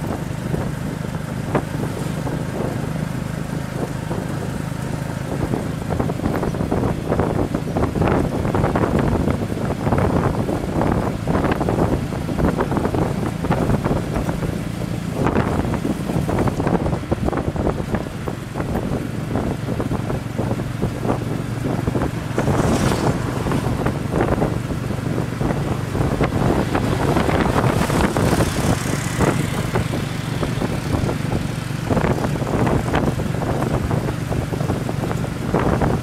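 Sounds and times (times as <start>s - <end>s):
motorbike engine humming: 0.0s - 36.0s
wind buffeting microphone: 0.0s - 36.0s.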